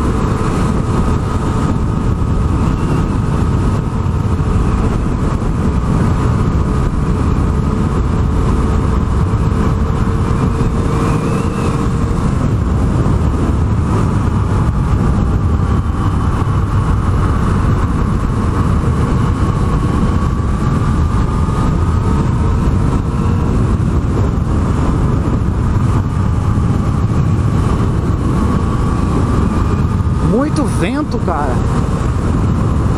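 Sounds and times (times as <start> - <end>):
motorcycle engine cruising: 0.0 - 32.9
wind rumble on microphone: 0.0 - 32.9.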